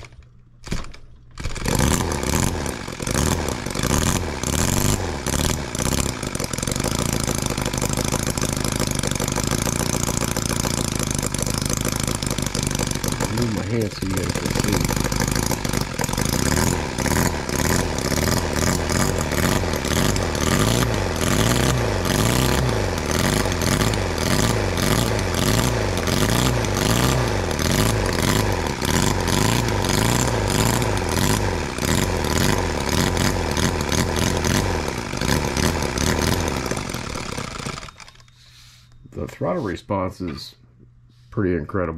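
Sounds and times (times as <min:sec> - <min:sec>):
model engine revving: 0:01.4 - 0:38.3.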